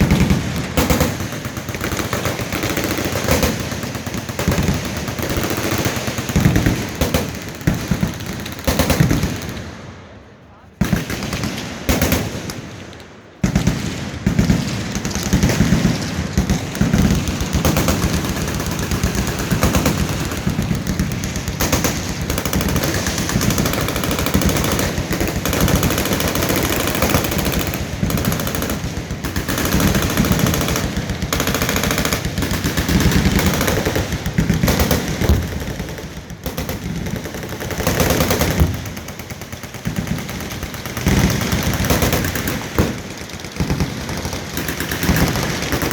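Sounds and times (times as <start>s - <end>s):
machine guns firing full auto: 0.0s - 9.8s, 10.8s - 45.9s.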